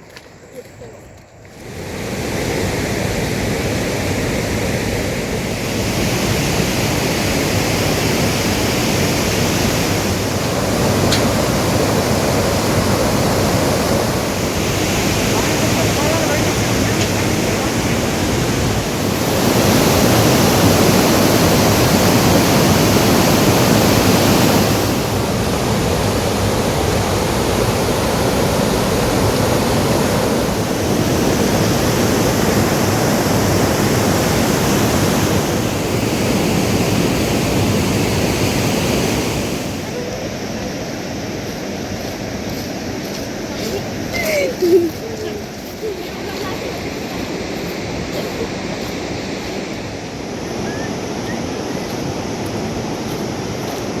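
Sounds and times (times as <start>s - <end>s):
water rushing: 1.4s - 54.0s.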